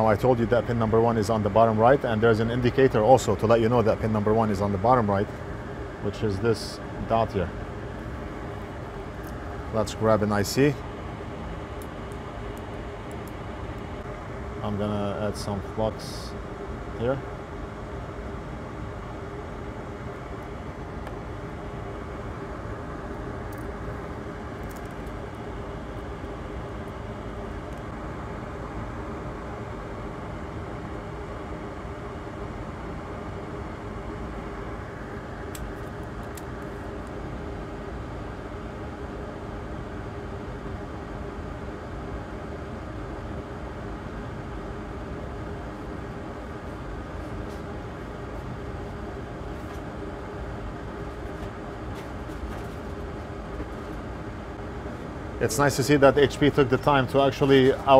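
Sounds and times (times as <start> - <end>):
faint steady hum: 0.0 - 57.9
fan running: 0.0 - 57.9.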